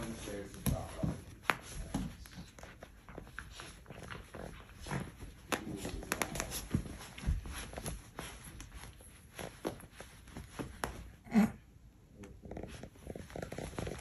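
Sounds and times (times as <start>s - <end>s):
puppy scratching and digging: 0.0s - 11.5s, 12.4s - 14.0s.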